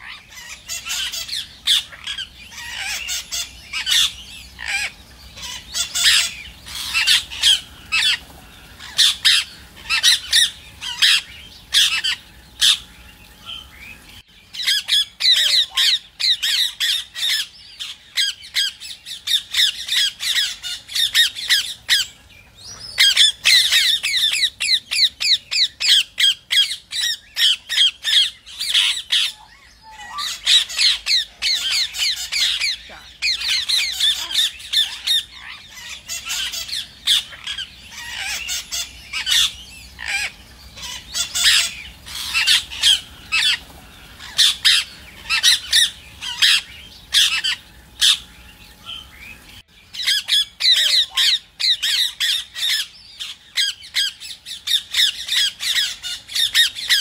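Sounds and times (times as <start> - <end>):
parakeets calling shrilly: 0.0 - 57.0.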